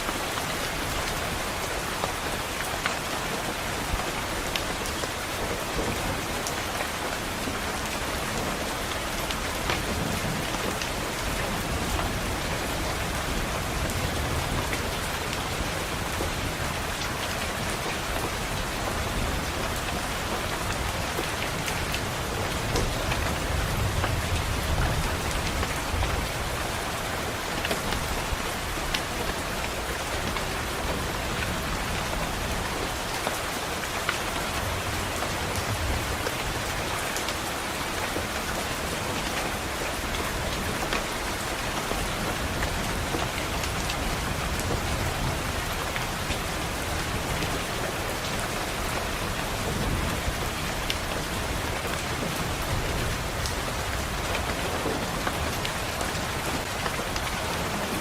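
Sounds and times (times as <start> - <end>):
rain pattering on a window: 0.0 - 58.0.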